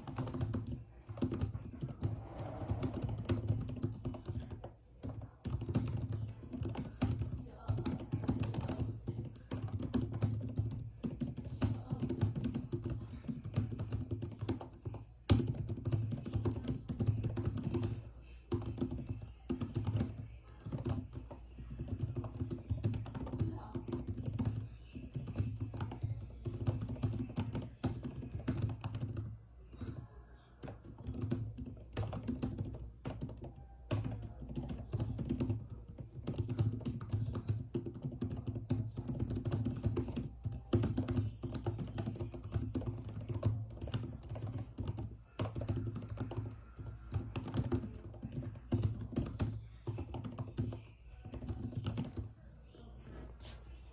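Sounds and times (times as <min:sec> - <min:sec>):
keyboard typing: 0:00.0 - 0:52.3.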